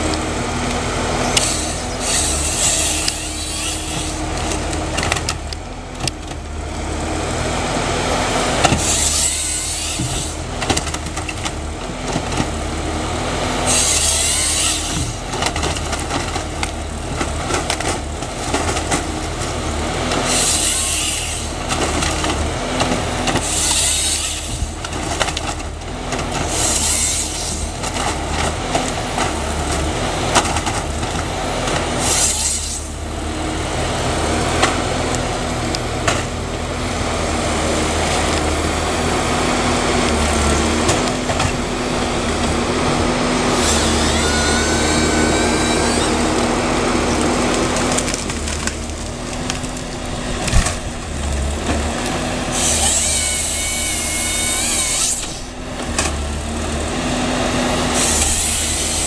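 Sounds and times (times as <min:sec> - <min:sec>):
chainsaw cutting logs: 0:00.0 - 0:59.0
forestry harvester running: 0:00.0 - 0:59.0.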